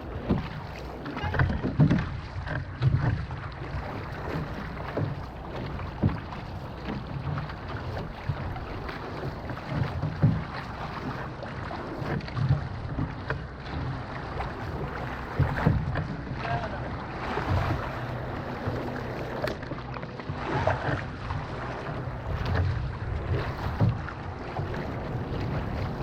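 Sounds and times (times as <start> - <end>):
water noise: 0.0 - 26.0
wind buffeting microphone: 0.0 - 26.0.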